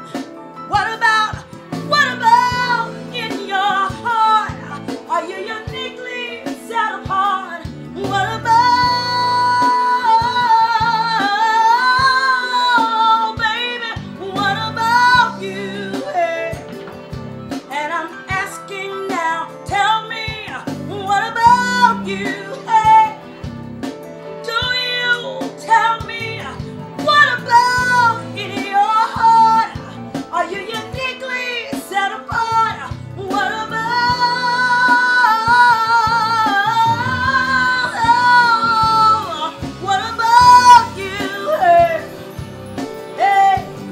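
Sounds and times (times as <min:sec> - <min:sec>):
instrumental backing music: 0:00.0 - 0:43.9.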